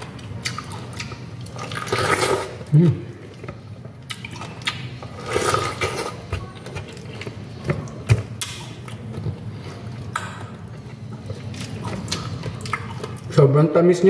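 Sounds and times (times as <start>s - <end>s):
wet chewing: 0.0s - 13.3s.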